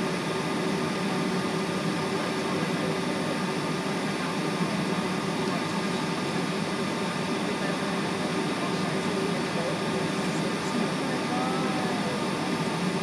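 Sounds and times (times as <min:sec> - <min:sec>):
airliner cabin hum and hiss: 0:00.0 - 0:13.0.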